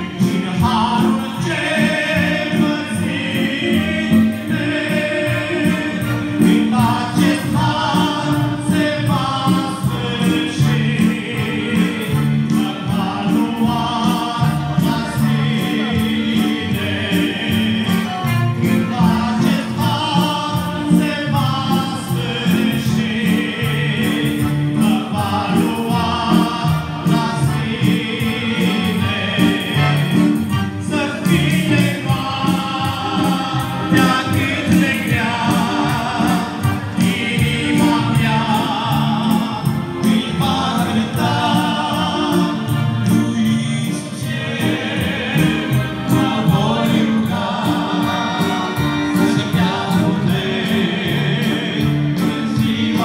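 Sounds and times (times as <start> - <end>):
accordion: 0.0 - 53.0
man singing: 0.0 - 53.0.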